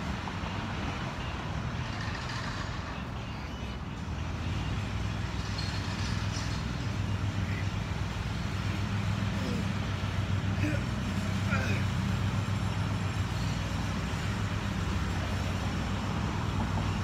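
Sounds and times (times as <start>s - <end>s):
low rumble of urban background: 0.0s - 17.0s.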